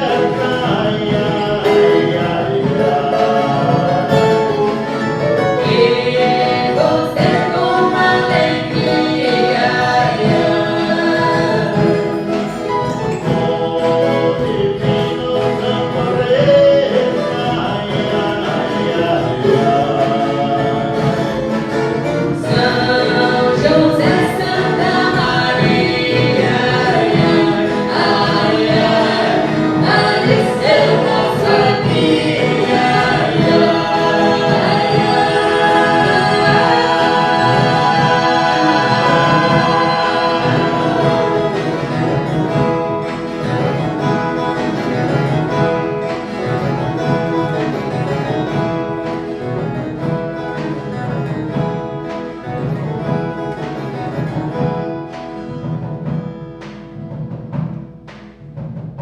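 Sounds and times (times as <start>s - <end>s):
string orchestra playing: 0.0s - 15.9s, 16.6s - 49.7s
choir singing: 0.0s - 53.9s.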